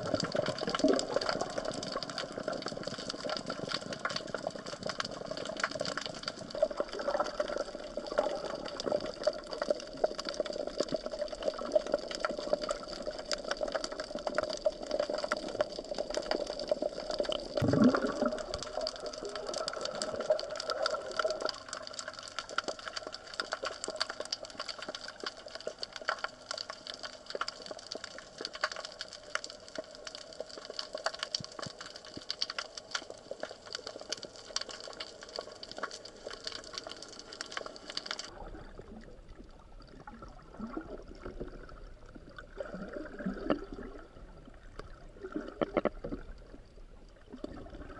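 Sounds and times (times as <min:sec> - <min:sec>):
underwater crackle of tiny clicks: 0:00.0 - 0:47.8.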